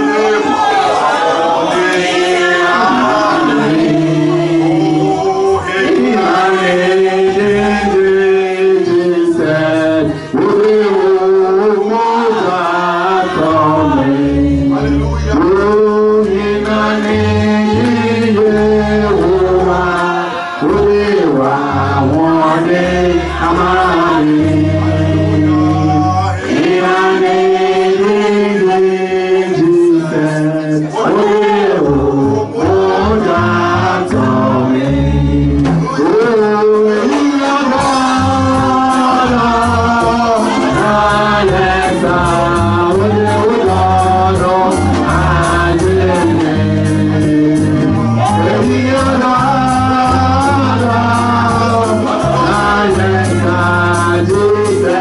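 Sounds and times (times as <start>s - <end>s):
bass line: 0.0s - 55.0s
keyboard: 0.0s - 55.0s
man singing worship song: 0.0s - 55.0s.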